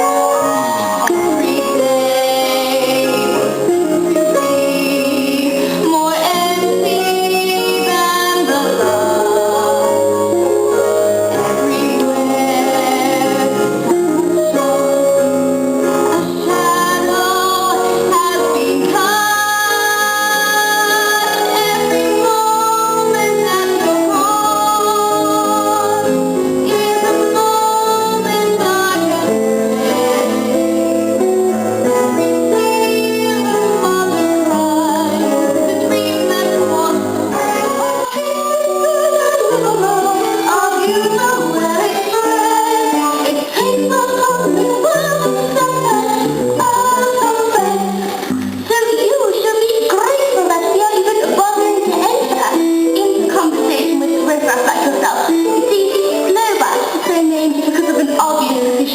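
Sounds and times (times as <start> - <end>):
instrumental accompaniment: 0.0 - 58.9.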